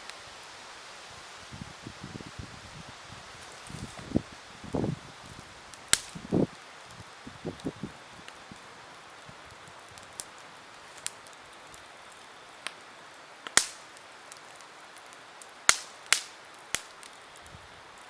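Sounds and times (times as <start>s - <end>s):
campfire popping: 0.0s - 18.0s
faint steady hiss: 0.0s - 18.0s.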